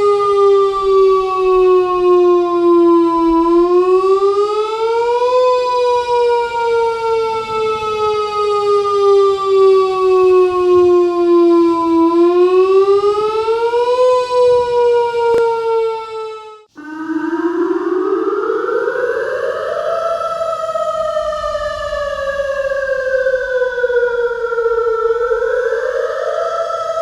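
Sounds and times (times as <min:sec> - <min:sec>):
tornado siren wailing: 0:00.0 - 0:27.0.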